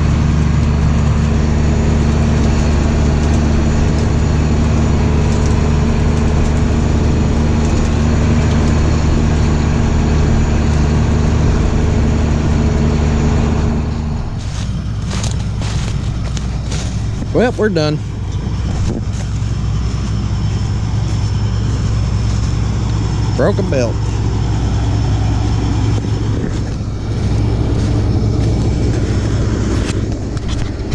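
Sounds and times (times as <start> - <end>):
combine harvester droning: 0.0 - 30.9
diesel engine running: 0.0 - 30.9.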